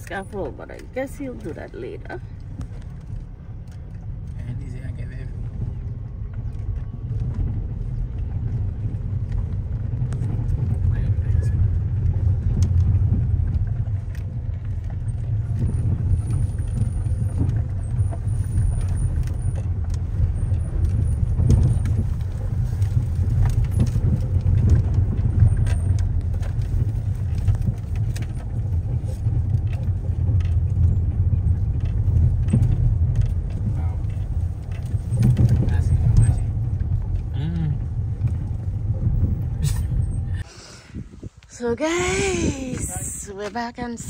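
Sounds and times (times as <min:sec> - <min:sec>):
knocks and rattles from bumps: 0:00.0 - 0:40.4
car engine and tyres rumbling: 0:00.0 - 0:44.0.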